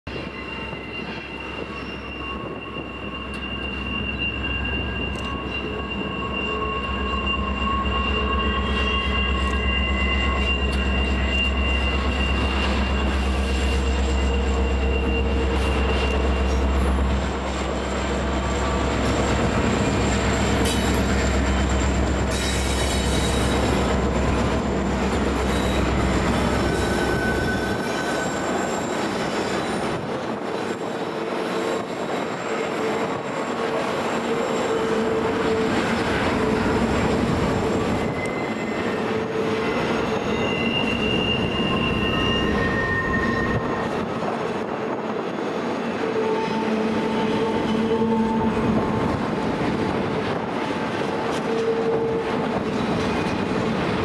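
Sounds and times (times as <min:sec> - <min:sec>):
diesel locomotive engine rumble: 0:00.1 - 0:54.0
wheel flanges squealing: 0:00.1 - 0:54.0.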